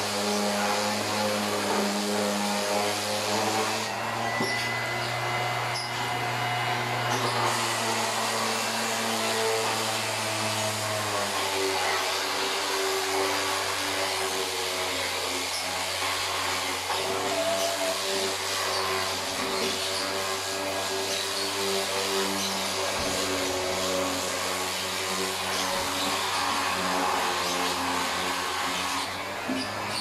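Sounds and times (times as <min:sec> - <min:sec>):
electric sander running: 0:00.0 - 0:30.0.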